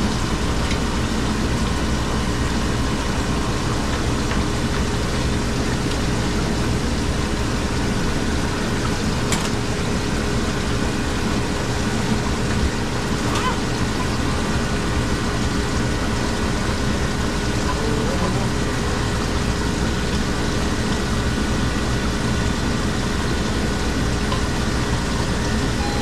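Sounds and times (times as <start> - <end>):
ice machine humming: 0.0 - 26.0.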